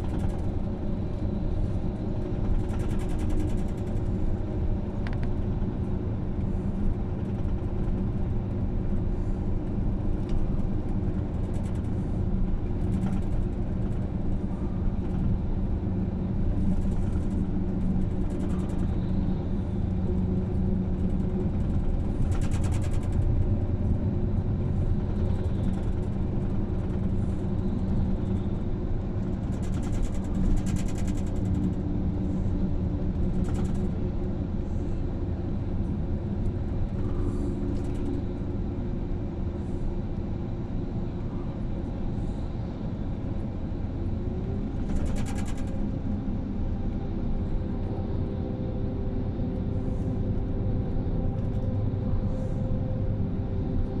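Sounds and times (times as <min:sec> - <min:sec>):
bus engine and tyre drone: 0:00.0 - 0:54.0.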